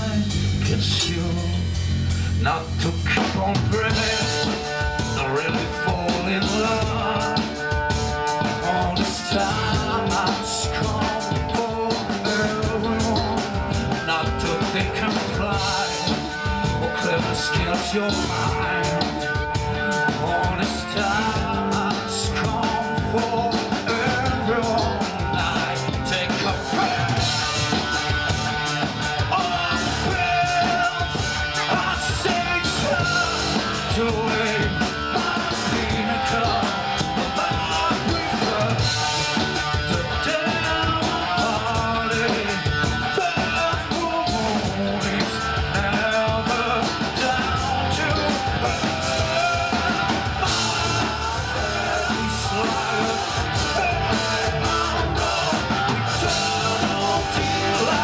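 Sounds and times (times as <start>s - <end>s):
rock band playing loudly: 0.0s - 58.0s.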